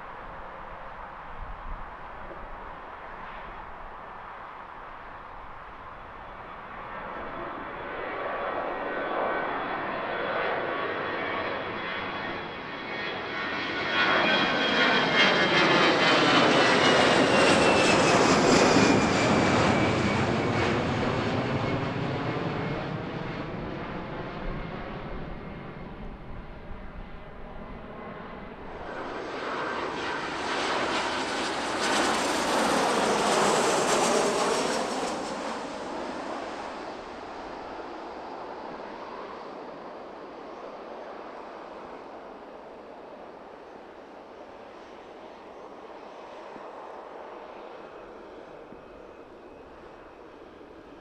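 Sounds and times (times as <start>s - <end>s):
airliner engine roar: 0.0s - 51.0s
jet engine whine sliding down: 5.9s - 51.0s.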